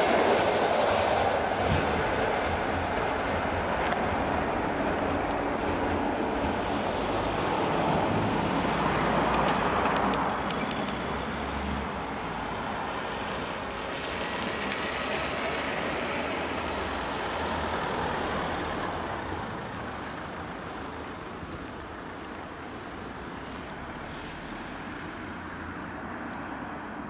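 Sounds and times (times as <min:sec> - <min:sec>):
car passing: 0:00.0 - 0:27.0.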